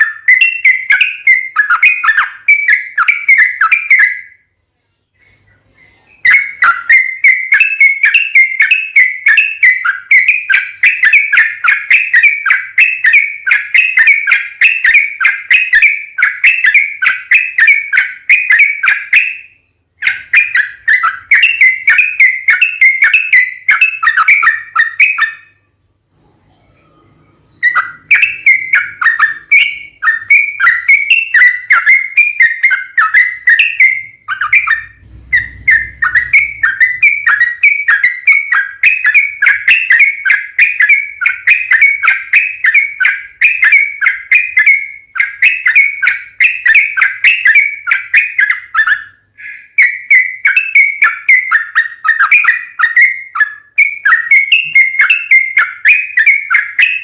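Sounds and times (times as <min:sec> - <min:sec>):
bird whistled chattering song: 0:00.0 - 0:04.5, 0:05.1 - 0:57.0.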